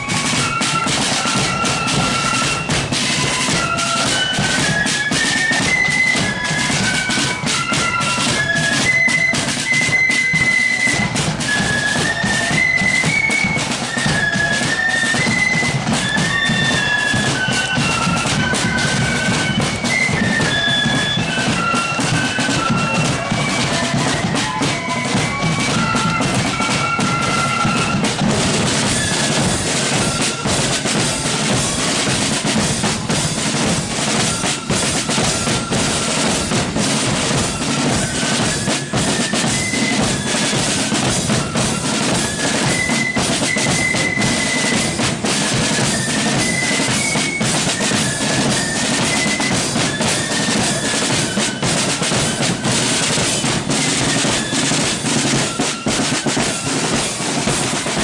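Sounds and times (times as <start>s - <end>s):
flutes playing a tune: 0.0s - 58.0s
side drums and bass drum: 0.0s - 58.0s.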